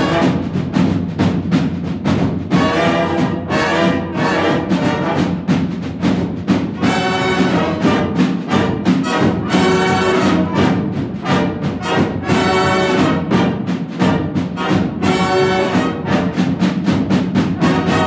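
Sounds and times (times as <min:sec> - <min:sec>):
brass punched chords: 0:00.0 - 0:06.1, 0:06.7 - 0:18.0
marching band playing: 0:00.0 - 0:18.0.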